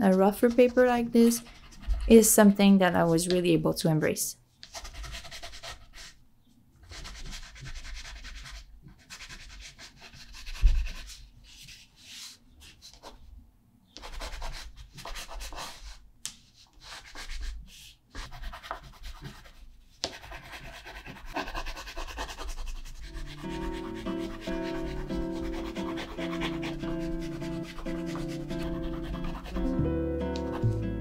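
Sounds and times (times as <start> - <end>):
wax pastel scratching on paper: 0.0 - 3.4, 4.6 - 6.2, 6.8 - 12.4, 14.0 - 16.0, 16.6 - 30.8.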